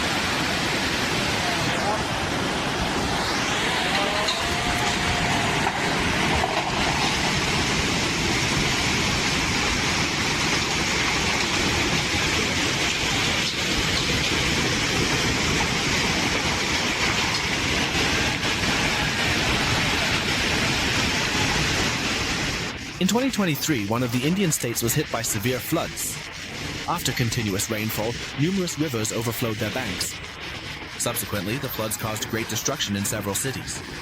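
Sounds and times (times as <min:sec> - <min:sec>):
hail and rain pounding: 0:00.0 - 0:34.0
hailstones ticking: 0:03.7 - 0:34.0.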